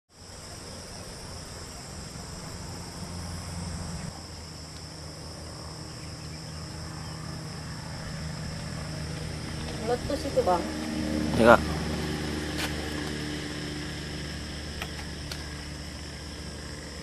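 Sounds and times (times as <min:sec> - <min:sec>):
insects chirring: 0:00.1 - 0:17.0.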